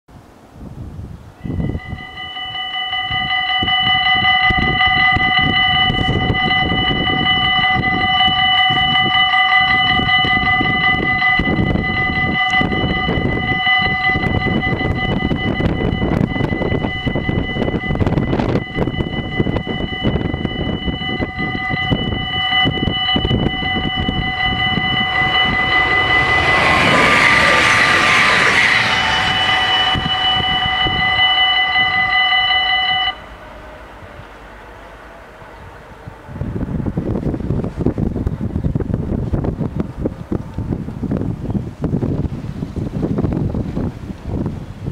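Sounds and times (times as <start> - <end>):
low rumbling noise: 0.2 - 44.9
crossing warning bells ringing: 1.4 - 44.4
approaching electric train rushing: 1.4 - 44.9.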